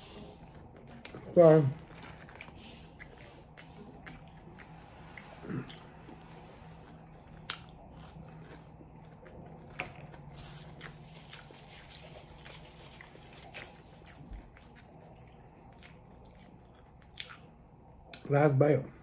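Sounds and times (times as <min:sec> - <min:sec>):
faint chewing: 0:00.0 - 0:18.3.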